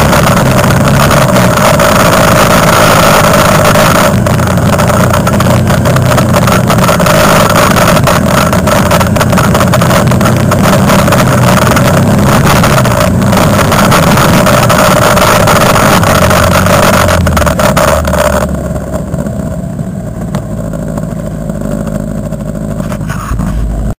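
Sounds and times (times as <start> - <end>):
clatters over rough trail: 0.0 - 24.0
quad bike engine running: 0.0 - 24.0.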